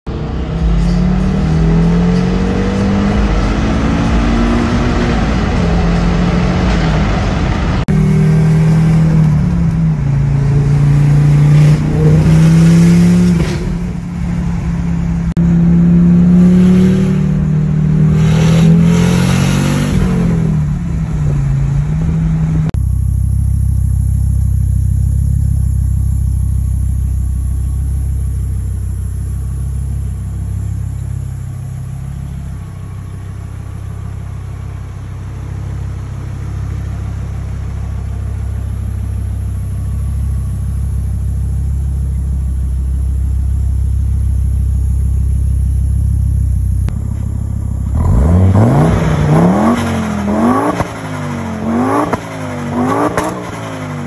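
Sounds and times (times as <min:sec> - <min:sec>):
car engine idling: 0:00.1 - 0:18.2, 0:20.0 - 0:54.0
car engine accelerating: 0:00.1 - 0:54.0.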